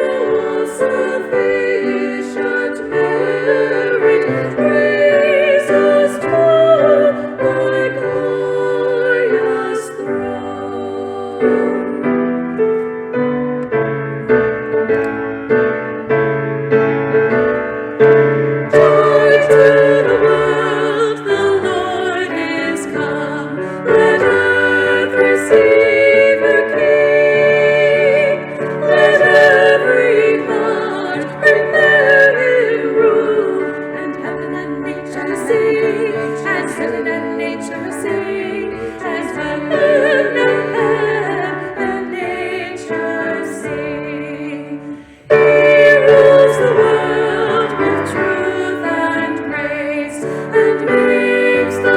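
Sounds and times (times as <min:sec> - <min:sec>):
women's vocal trio singing: 0:00.0 - 0:12.5, 0:18.6 - 0:51.9
piano accompaniment: 0:00.0 - 0:51.9.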